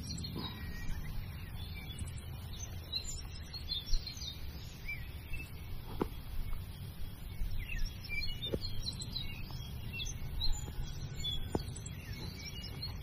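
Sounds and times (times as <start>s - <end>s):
low background noise: 0.0s - 13.0s
songbirds chirping: 0.0s - 13.0s.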